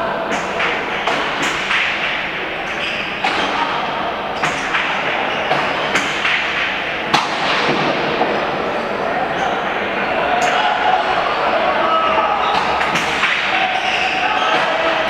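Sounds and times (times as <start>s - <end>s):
murmur of spectators: 0.0s - 15.0s.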